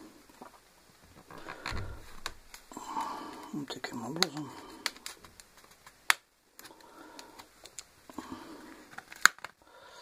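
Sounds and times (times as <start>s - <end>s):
faint rustling: 0.2s - 9.2s.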